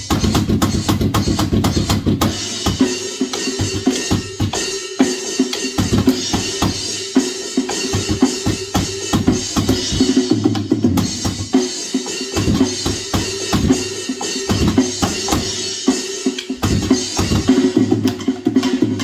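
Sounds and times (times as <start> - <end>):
electronic drum kit beat: 0.0 - 19.0.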